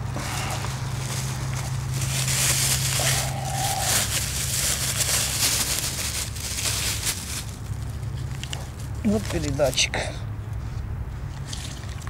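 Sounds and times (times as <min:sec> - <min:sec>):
footsteps crunching through undergrowth: 0:00.0 - 0:09.8.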